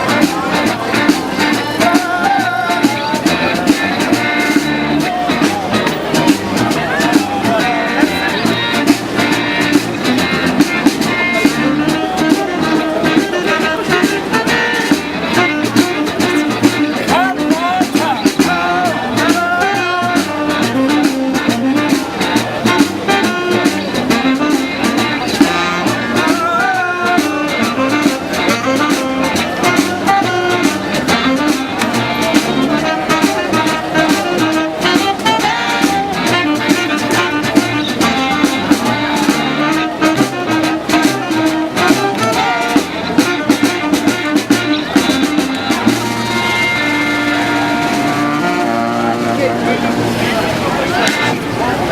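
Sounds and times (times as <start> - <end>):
street band playing funky tune: 0.0 - 51.9.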